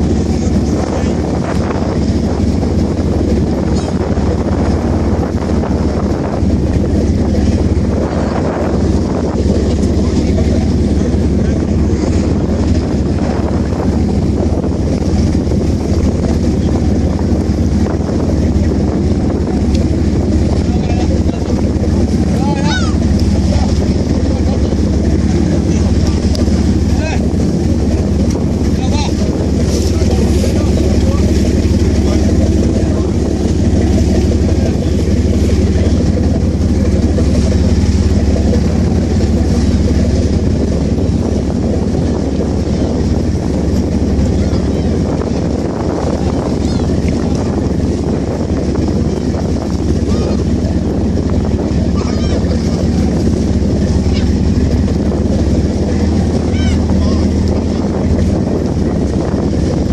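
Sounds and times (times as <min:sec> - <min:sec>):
boat engine droning: 0:00.0 - 0:59.9
wind buffeting microphone: 0:00.0 - 0:59.9.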